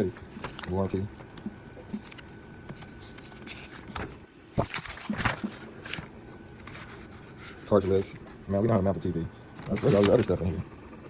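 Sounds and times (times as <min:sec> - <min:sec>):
paper rustling: 0:00.2 - 0:08.4, 0:09.5 - 0:10.6.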